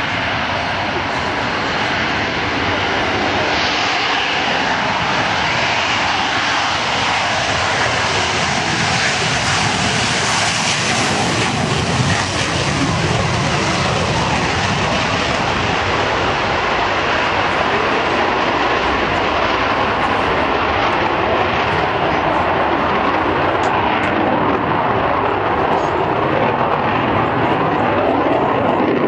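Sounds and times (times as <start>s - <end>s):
airplane engine rushing: 0.0s - 29.0s.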